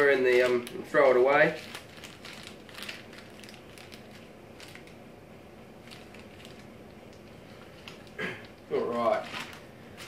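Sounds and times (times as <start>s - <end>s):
plastic packet crinkling: 0.0s - 5.0s, 5.8s - 10.0s.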